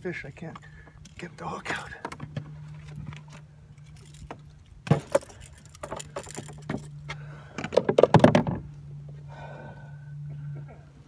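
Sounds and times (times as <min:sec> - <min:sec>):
boat motor humming: 0:00.3 - 0:11.0.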